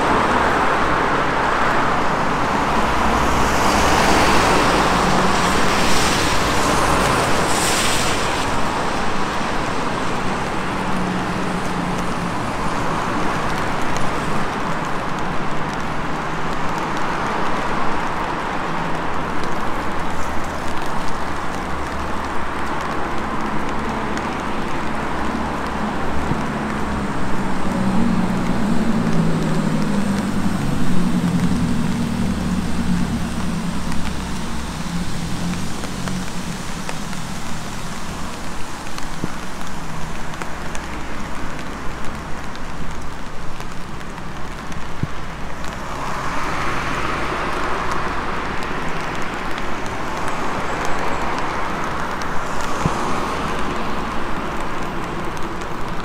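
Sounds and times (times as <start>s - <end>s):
traffic rumble: 0.0s - 56.0s
tyres hissing on wet road: 0.0s - 56.0s.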